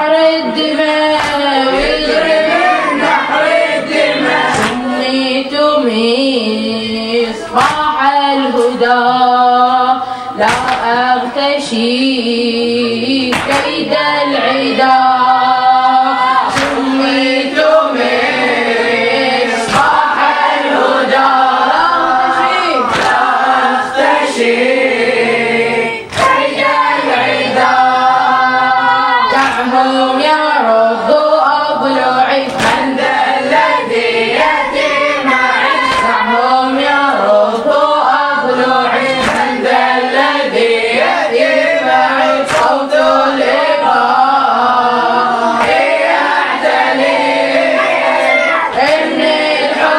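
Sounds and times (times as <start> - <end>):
boys chanting in chorus: 0.0 - 49.9.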